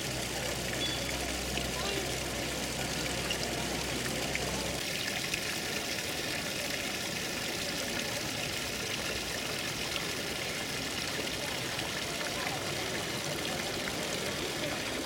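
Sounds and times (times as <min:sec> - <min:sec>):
fountain water pouring into basin: 0:00.0 - 0:15.0.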